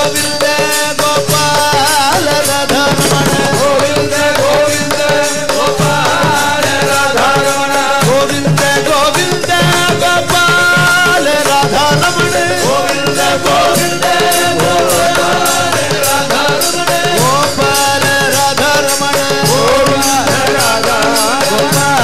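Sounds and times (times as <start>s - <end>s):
drum beat: 0.0s - 22.0s
men singing devotional song: 0.0s - 22.0s.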